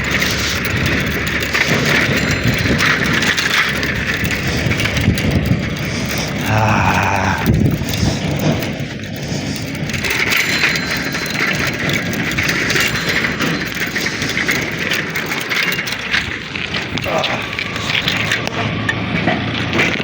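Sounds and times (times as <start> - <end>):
bicycle tyres rattling on rough road: 0.0 - 20.0.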